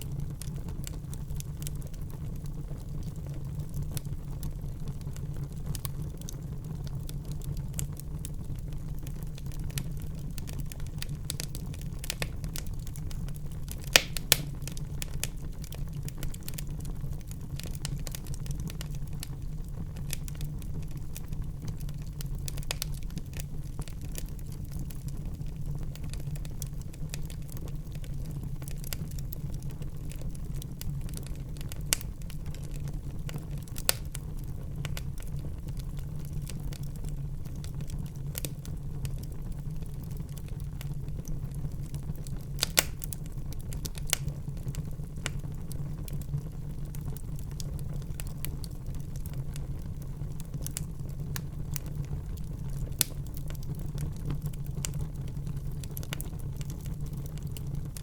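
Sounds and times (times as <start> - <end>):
fire crackling: 0.0 - 58.0
loud pops of burning wood: 0.0 - 58.0
low rumble of flames: 0.0 - 58.0.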